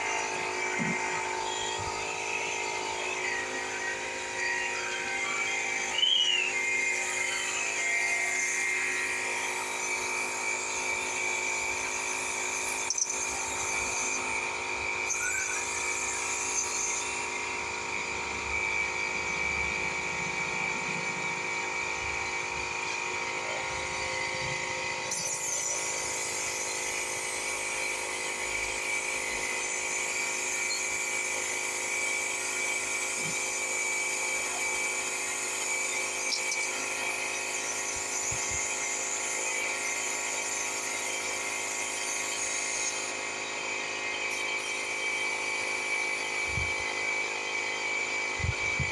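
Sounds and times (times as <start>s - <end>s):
electric air compressor whining hum: 0.0s - 48.9s.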